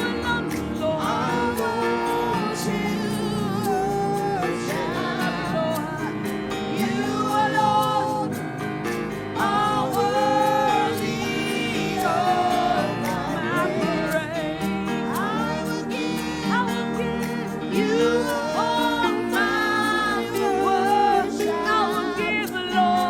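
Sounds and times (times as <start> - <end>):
worship team singing: 0.0 - 23.0.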